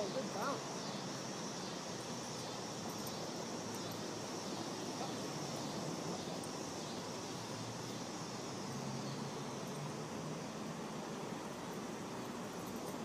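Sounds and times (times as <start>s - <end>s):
outdoor background hiss and rumble: 0.0s - 13.0s.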